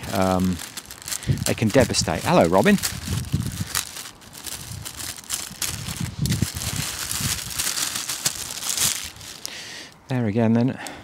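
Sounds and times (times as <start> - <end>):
bulbs shifting in bag: 0.0 - 9.6
plastic bag crinkling: 0.0 - 9.6.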